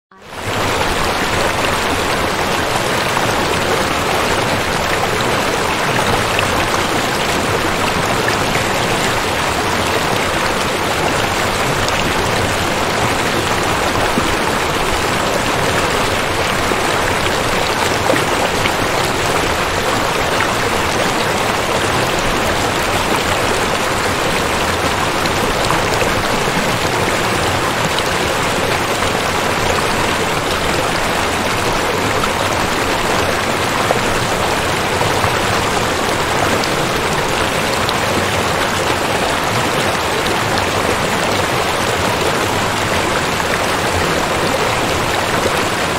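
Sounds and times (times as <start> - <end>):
rain falling on water: 0.2 - 45.9.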